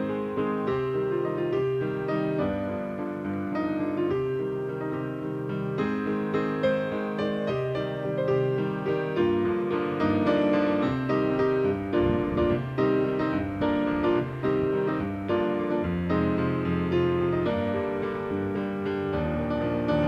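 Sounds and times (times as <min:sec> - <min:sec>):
piano melody: 0:00.0 - 0:20.0.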